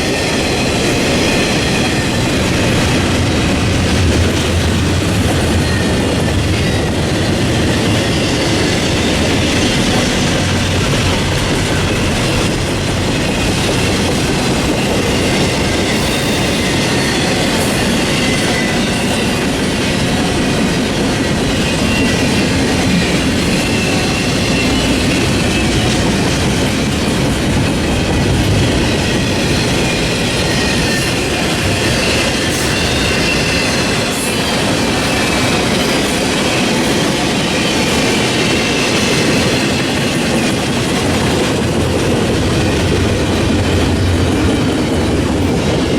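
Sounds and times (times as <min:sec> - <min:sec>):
freight train cars rolling: 0:00.0 - 0:45.9.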